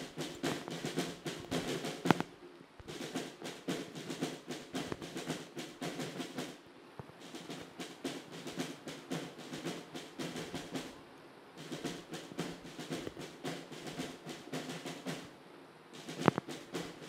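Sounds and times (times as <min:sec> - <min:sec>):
marching snare and bass drums: 0:00.0 - 0:11.0, 0:11.6 - 0:15.3, 0:16.0 - 0:17.0.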